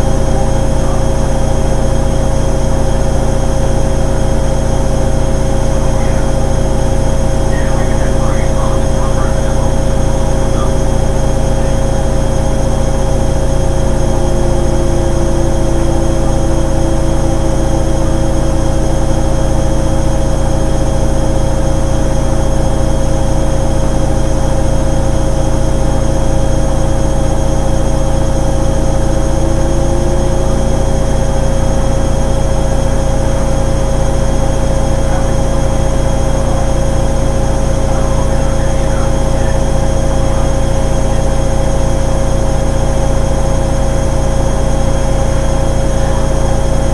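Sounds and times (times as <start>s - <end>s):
motor whine: 0.0s - 46.9s
washing machine humming: 0.0s - 46.9s.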